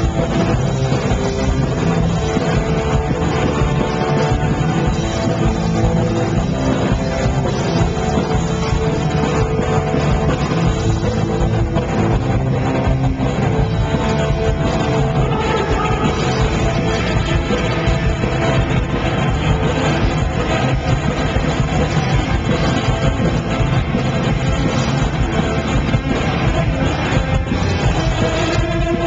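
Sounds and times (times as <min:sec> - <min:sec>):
punk rock band playing live: 0:00.0 - 0:29.0.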